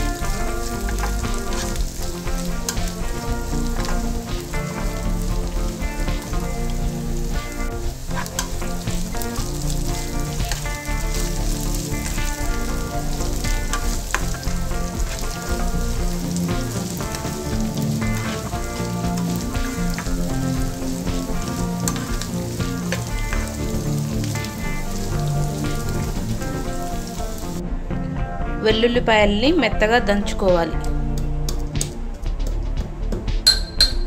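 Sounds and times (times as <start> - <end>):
vegetables sizzling in oil: 0.0 - 27.6
instrumental background music: 0.0 - 34.0.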